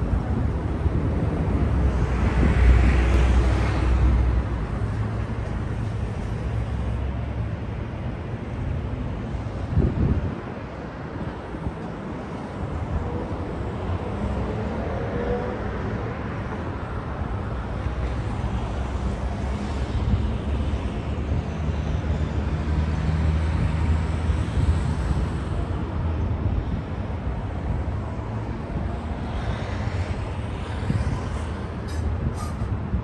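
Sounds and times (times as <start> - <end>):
distant city traffic rumble: 0.0 - 33.0.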